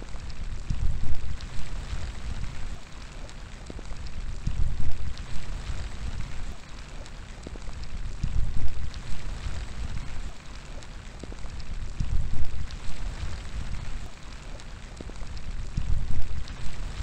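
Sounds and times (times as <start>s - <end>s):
low rumbling wind gusts: 0.0s - 17.0s
raindrops ticking close by: 0.0s - 17.0s
steady rain falling: 0.0s - 17.0s.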